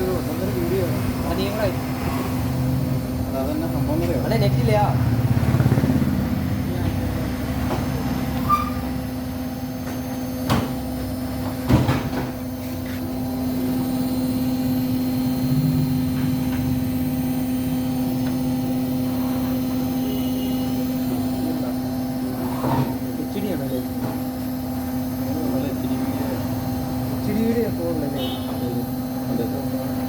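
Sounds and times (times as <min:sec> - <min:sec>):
washing machine hum: 0:00.0 - 0:30.0.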